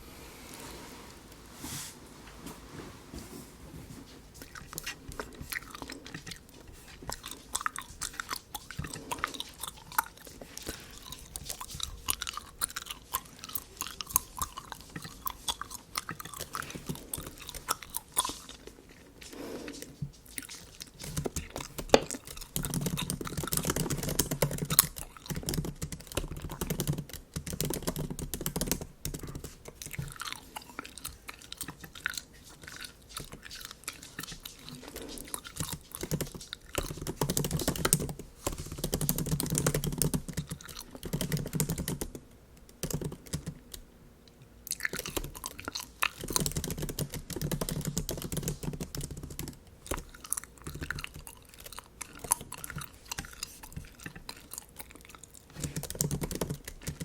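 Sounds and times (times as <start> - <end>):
bubble gum chewing: 4.3 - 57.0.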